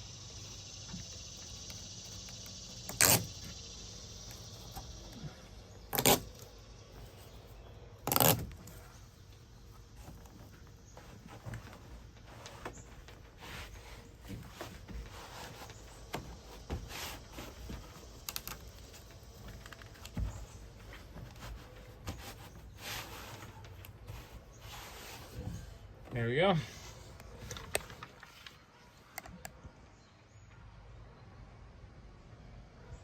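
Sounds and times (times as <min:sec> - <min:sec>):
faint rustling and clicks: 0:00.3 - 0:29.8.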